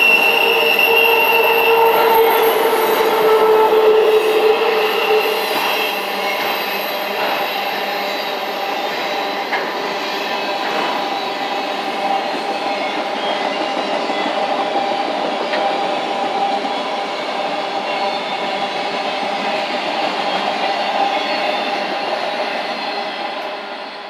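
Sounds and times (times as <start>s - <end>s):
train wheels on rail: 0.0s - 24.0s.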